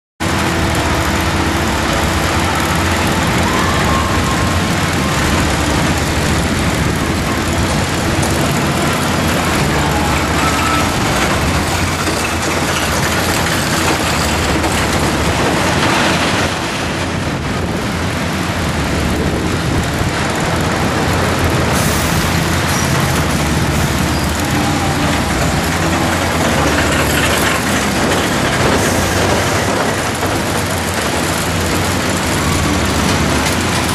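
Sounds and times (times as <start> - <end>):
coaster cars rumbling and rattling: 0.2 - 33.9
wind rush on microphone: 0.2 - 33.9.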